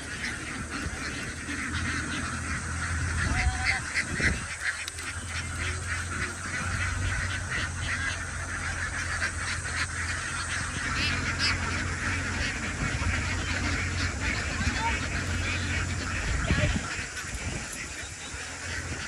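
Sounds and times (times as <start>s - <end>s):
ducks quacking: 0.0s - 19.0s
low steady hum: 0.0s - 19.0s.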